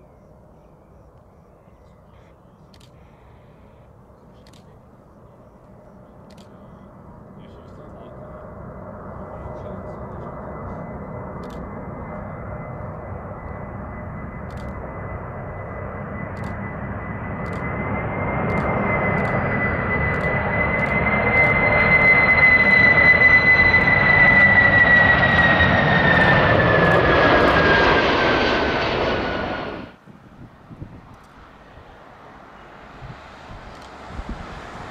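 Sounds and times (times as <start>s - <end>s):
jet airliner passing by: 2.8s - 34.9s
high engine whine: 3.8s - 34.9s.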